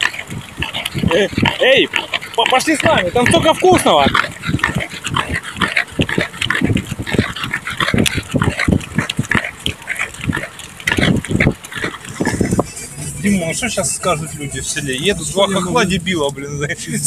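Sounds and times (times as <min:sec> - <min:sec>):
wild boar grunting and huffing: 0:00.0 - 0:17.0.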